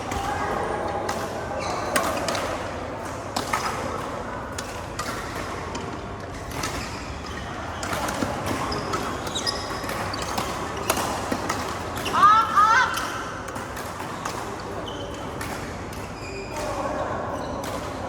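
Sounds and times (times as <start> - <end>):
rackets striking shuttlecock: 0.1 - 16.9, 17.6 - 18.0.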